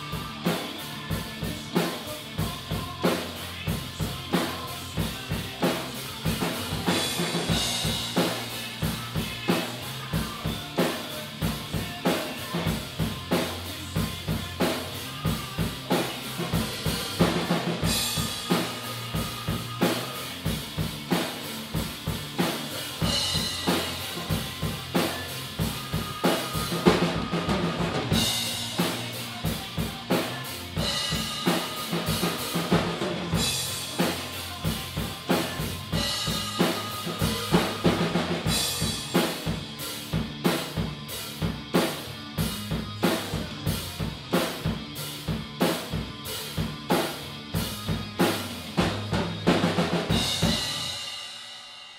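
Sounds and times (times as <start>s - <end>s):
rock drum beat: 0.0s - 51.9s.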